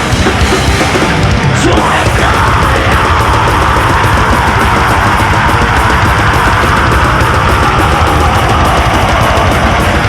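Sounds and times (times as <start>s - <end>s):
heavy metal band playing live: 0.0s - 10.0s.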